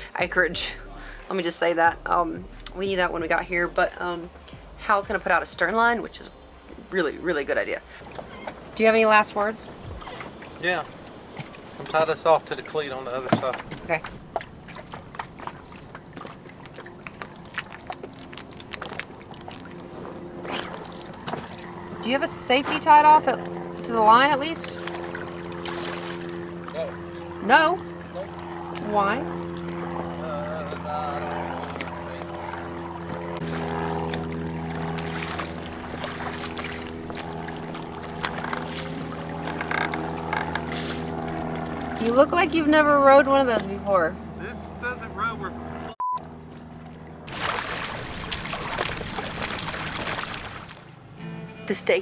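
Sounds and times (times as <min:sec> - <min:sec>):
water lapping against hulls: 0:00.0 - 0:44.2, 0:46.4 - 0:50.9
outboard motor idling: 0:00.0 - 0:51.0.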